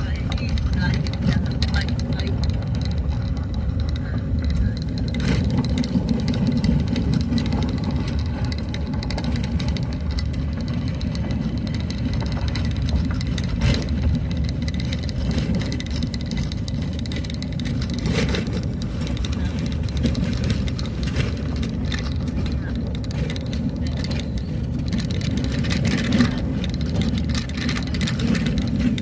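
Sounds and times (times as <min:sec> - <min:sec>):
rattles and knocks: 0:00.0 - 0:29.0
vehicle engine and road rumble: 0:00.0 - 0:29.0.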